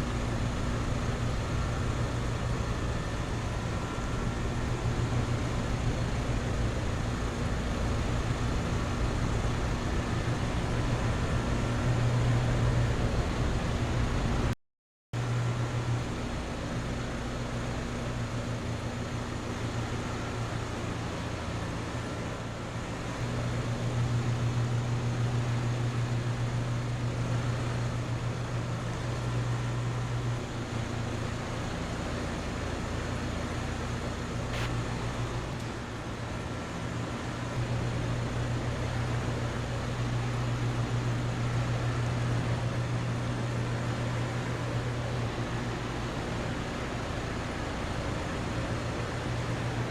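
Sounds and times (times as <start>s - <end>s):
condenser fans whooshing: 0.0s - 14.5s, 15.2s - 49.9s
air conditioner compressor hum: 0.0s - 14.6s, 15.2s - 49.9s.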